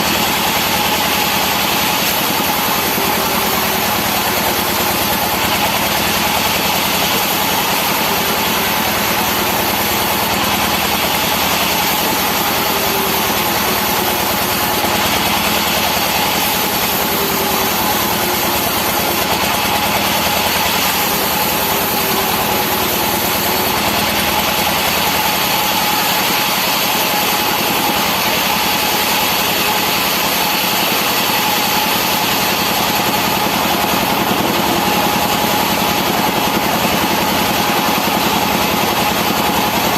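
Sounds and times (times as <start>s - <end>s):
high saw whine: 0.0s - 39.9s
sawmill machinery drone: 0.0s - 39.9s.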